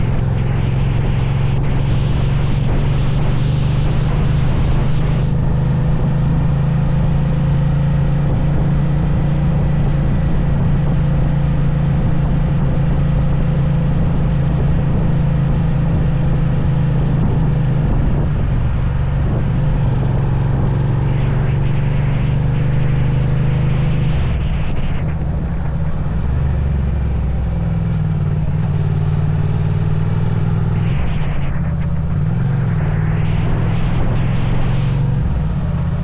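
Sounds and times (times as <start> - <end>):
motorcycle engine cruising: 0.0 - 36.0
wind and road noise: 0.0 - 36.0.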